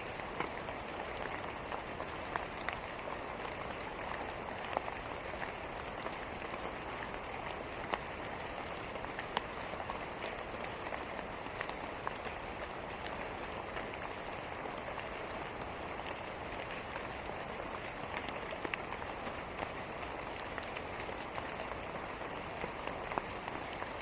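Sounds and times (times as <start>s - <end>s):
raindrops ticking: 0.0s - 24.0s
steady rain: 0.0s - 24.0s.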